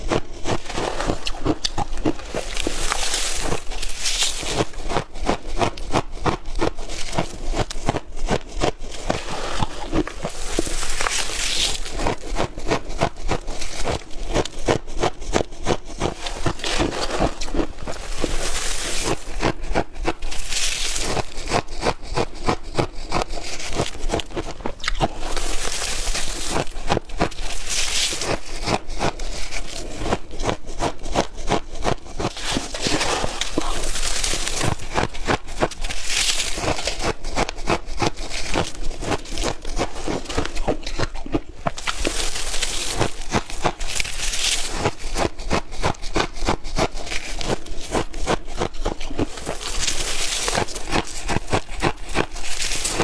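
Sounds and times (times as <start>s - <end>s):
ice being crunched: 0.0s - 53.0s.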